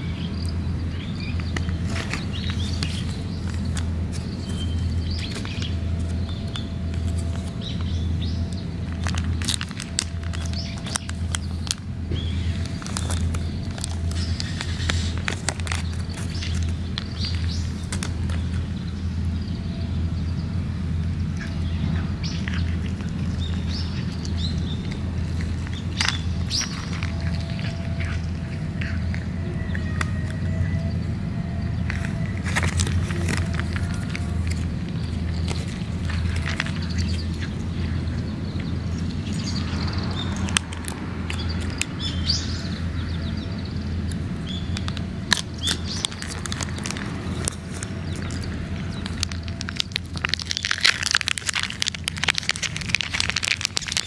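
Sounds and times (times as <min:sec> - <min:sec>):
low outdoor rumble: 0:00.0 - 0:54.0
small birds chirping: 0:00.0 - 0:54.0
cat crunching dry kibble: 0:00.1 - 0:19.5, 0:21.0 - 0:30.5, 0:31.3 - 0:54.0.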